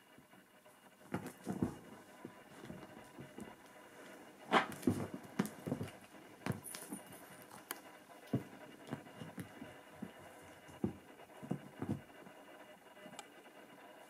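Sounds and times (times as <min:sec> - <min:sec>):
paws thumping on fabric: 0:01.0 - 0:12.3.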